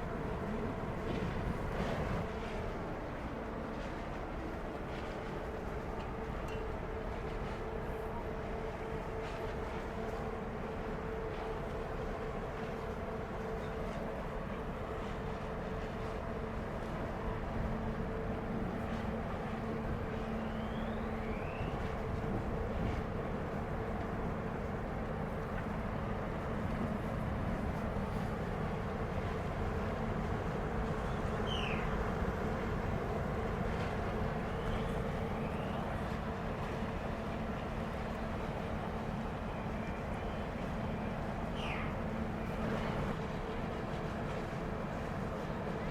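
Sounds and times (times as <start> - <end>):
ship engines droning: 0.0 - 45.9.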